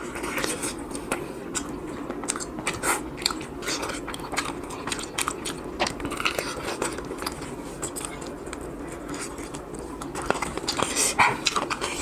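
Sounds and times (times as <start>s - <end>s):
chewing crispy fried chicken: 0.0s - 12.0s.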